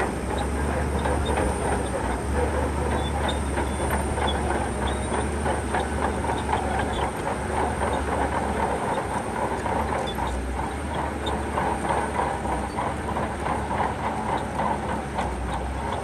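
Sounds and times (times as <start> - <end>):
steel tracks clattering: 0.0 - 15.7
diesel engine drone: 0.0 - 16.0.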